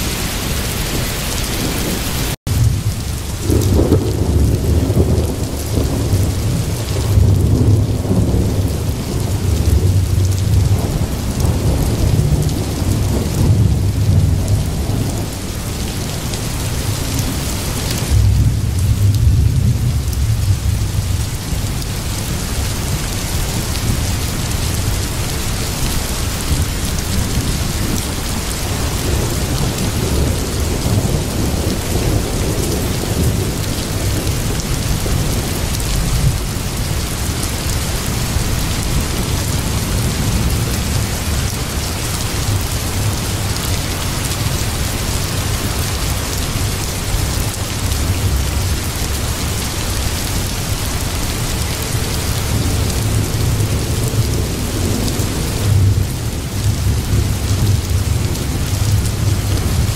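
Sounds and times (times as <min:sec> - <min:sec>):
low thunder rumbles: 0:00.0 - 0:59.9
rain falling: 0:00.0 - 0:59.9.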